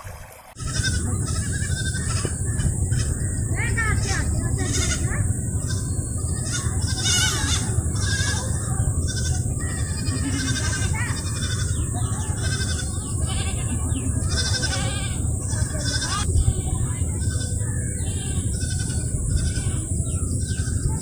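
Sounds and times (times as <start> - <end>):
water pump diesel engine running: 0.6 - 20.1
high animal calls: 0.6 - 21.0.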